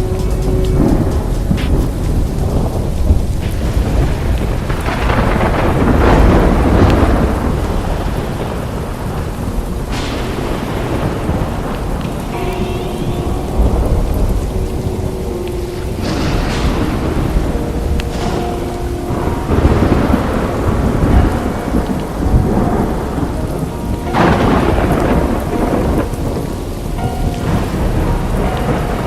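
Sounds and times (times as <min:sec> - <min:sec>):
heavy rain falling: 0:00.0 - 0:29.0
thunder rolling: 0:00.0 - 0:29.0.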